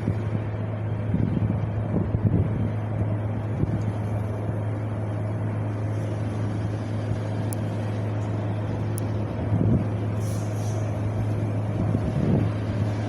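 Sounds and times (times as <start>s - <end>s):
wind buffeting microphone: 0.0s - 13.0s
wind rumbling: 0.0s - 13.0s.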